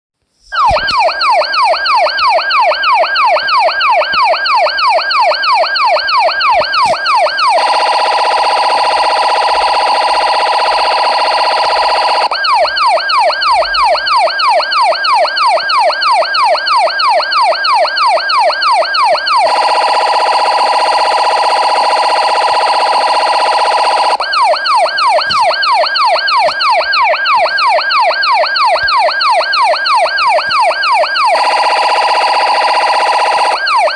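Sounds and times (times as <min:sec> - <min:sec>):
buzzing siren warble: 0:00.5 - 0:33.9
police siren yelping: 0:00.5 - 0:33.9.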